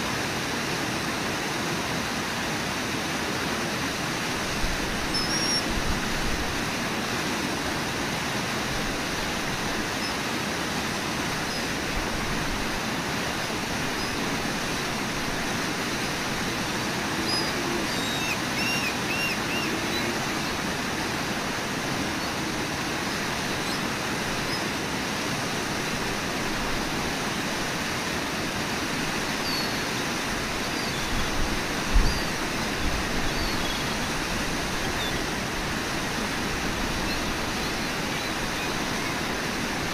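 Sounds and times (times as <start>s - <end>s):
waterfall and rapids rushing: 0.0s - 39.9s.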